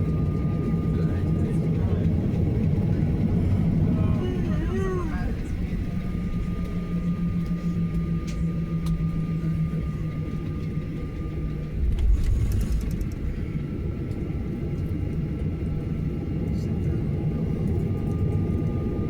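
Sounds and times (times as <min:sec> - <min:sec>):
airplane cabin rumble: 0:00.0 - 0:19.0
jet engine hum: 0:00.0 - 0:19.0.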